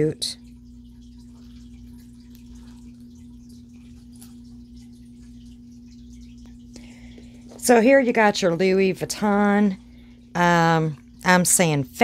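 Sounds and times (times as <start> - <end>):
steady single-tone hum: 0.0 - 12.0.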